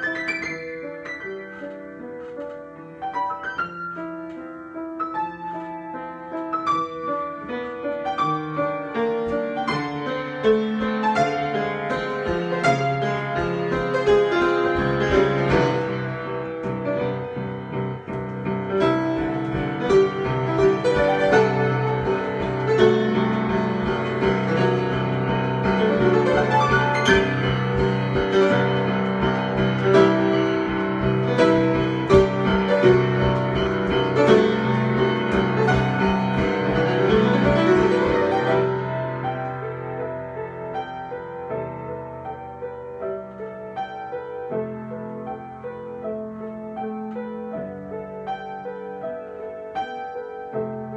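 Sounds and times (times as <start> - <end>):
solo piano improvisation: 0.0 - 50.9.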